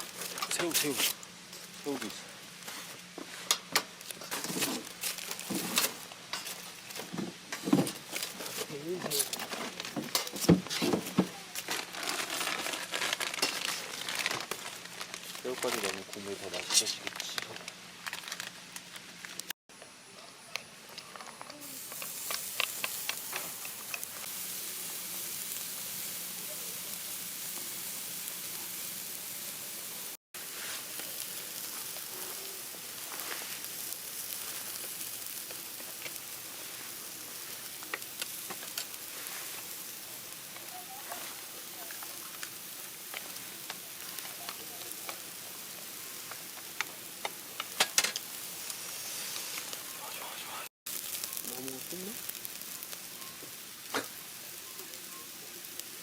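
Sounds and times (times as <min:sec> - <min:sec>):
fat crackling and popping: 0:00.0 - 0:56.0
food sizzling in hot fat: 0:00.0 - 0:56.0.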